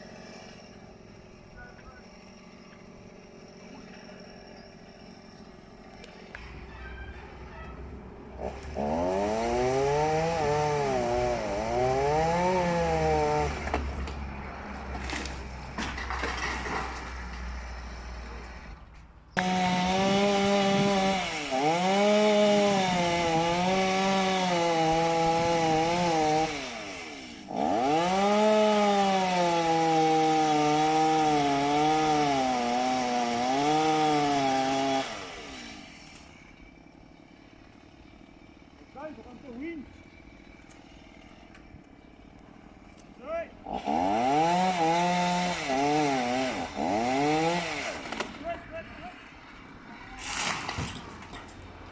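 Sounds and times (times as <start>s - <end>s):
chainsaw cutting wood: 0.0s - 6.5s, 8.3s - 18.8s, 19.4s - 48.5s.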